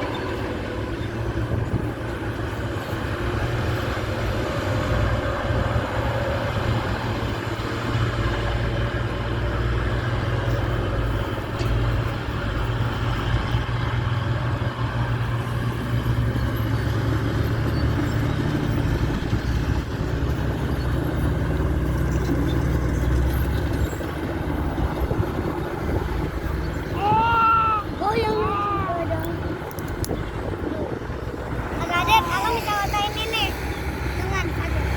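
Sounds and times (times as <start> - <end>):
diesel engine droning: 0.0 - 34.9.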